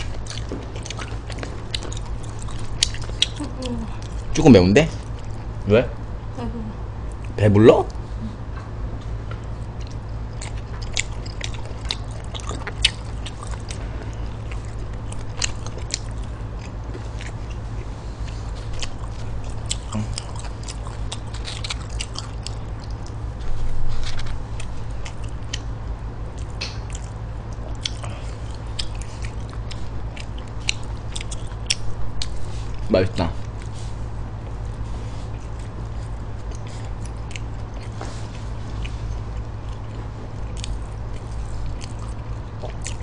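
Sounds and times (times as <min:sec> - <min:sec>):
chewing and biting food: 0:00.0 - 0:05.6, 0:09.0 - 0:43.0
steady low hum: 0:00.0 - 0:43.0.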